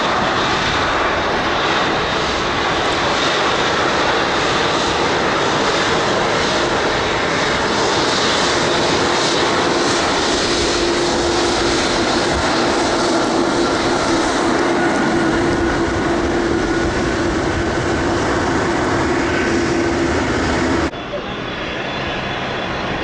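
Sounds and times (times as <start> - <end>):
jet engine rush with whine: 0.0 - 23.0.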